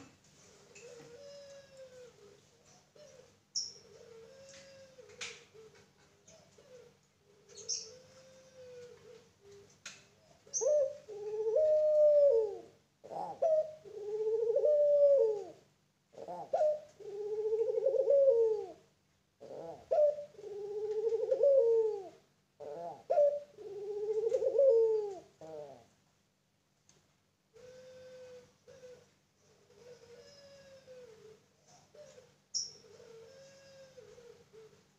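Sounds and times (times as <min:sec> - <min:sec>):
dove cooing: 0:00.0 - 0:25.9, 0:27.5 - 0:34.9.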